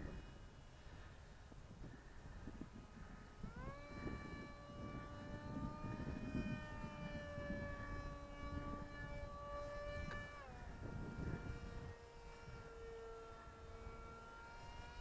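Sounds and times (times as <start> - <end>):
rc plane electric motor whining: 0.0 - 15.0.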